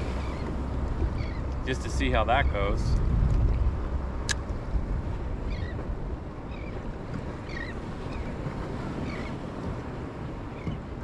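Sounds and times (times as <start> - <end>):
water around kayak: 0.0 - 11.0
wind on microphone: 0.0 - 11.0.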